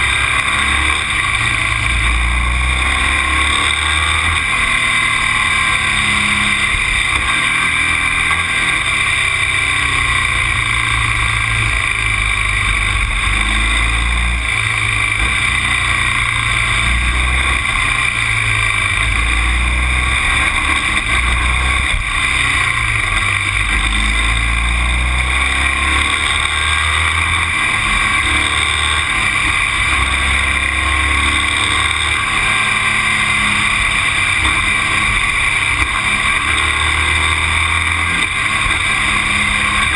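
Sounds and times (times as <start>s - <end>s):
vehicle travelling on road: 0.0s - 39.9s.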